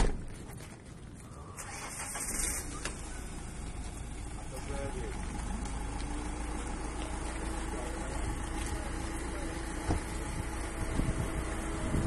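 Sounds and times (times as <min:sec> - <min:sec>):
van engine idling: 0:01.6 - 0:12.0.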